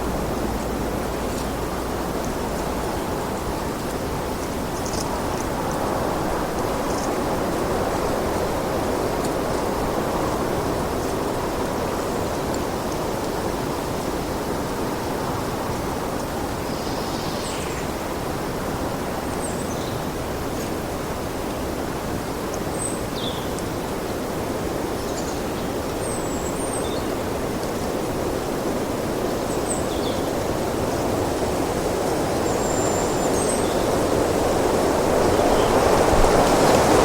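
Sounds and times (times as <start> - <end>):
steady wind blowing: 0.0 - 37.0.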